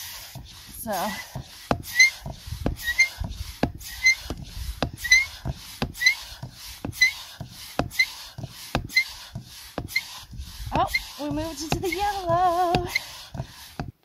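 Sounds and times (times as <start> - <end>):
hand pump strokes: 0.0 - 14.0.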